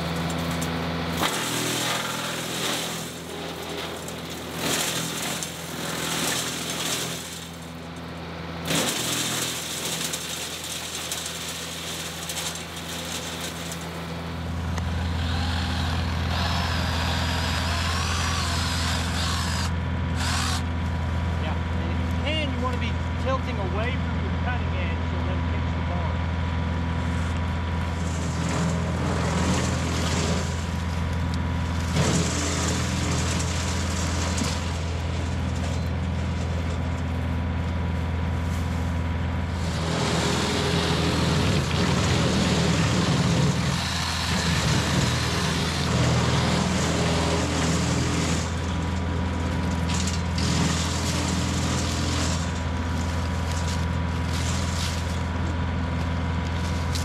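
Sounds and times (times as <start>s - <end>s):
tractor diesel engine running: 0.0s - 57.0s
wood chipper chipping wood: 0.0s - 57.0s.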